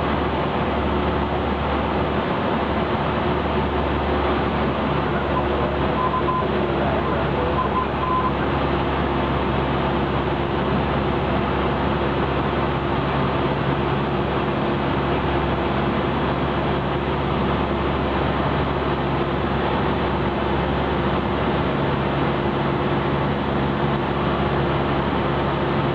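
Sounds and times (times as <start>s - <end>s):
propeller plane engine drone: 0.0s - 25.9s.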